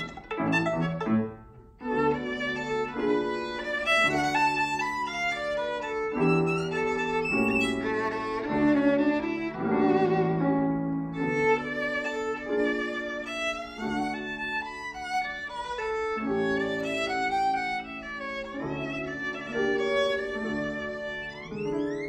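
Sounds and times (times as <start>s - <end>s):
bowed violin melody: 0.0s - 22.0s
piano chords: 0.0s - 22.0s.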